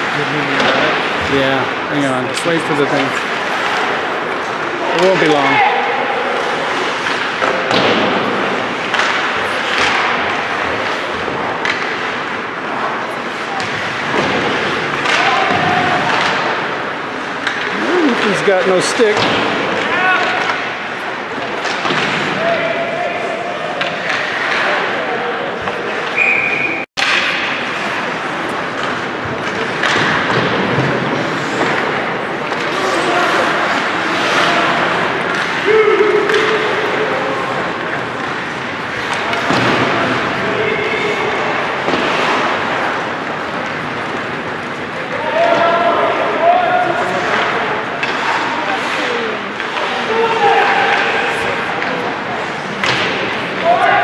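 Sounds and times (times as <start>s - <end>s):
crowd and game din: 0.0s - 54.0s.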